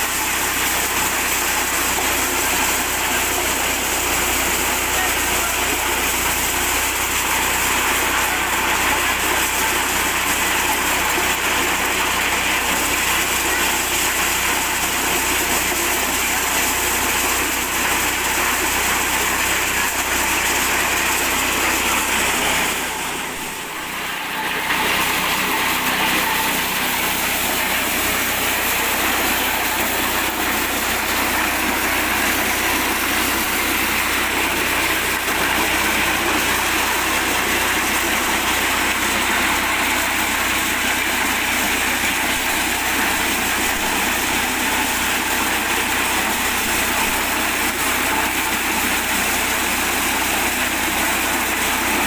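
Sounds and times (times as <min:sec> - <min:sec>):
corn sheller petrol engine running: 0:00.0 - 0:52.0.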